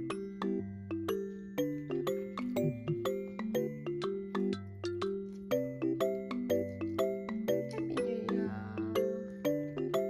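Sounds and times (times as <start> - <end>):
light background music: 0.0 - 10.0.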